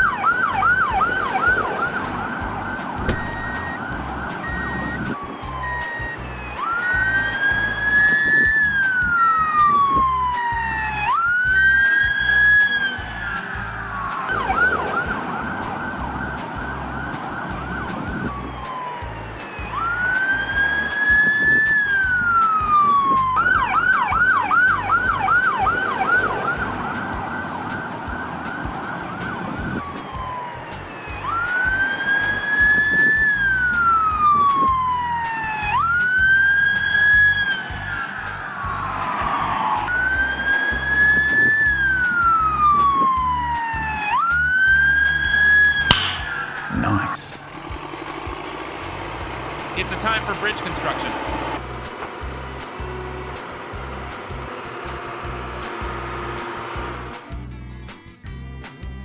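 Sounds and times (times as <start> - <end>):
emergency siren wailing and yelping: 0.0 - 47.4.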